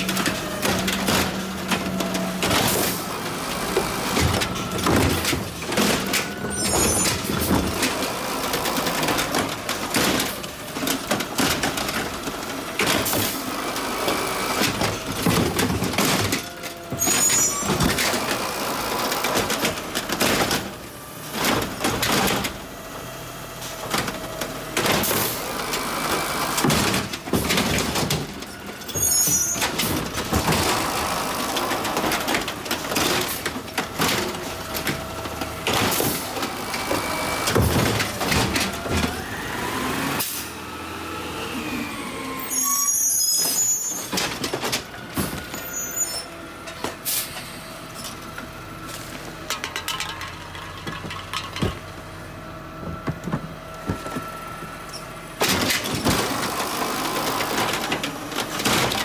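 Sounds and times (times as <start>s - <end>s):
diesel engine running and revving: 0.0s - 17.0s, 17.8s - 42.6s, 51.8s - 59.0s
carts banging and knocking: 0.0s - 39.9s, 43.3s - 47.0s, 48.0s - 59.0s.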